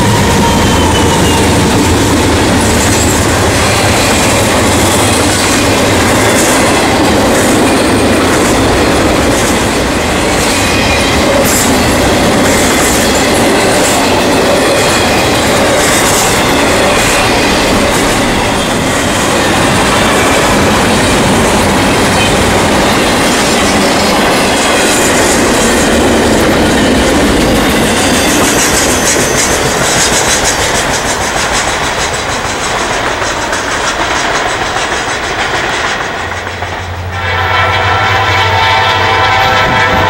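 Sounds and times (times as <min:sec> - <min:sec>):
train wheels clattering over rails: 0:00.0 - 0:37.2.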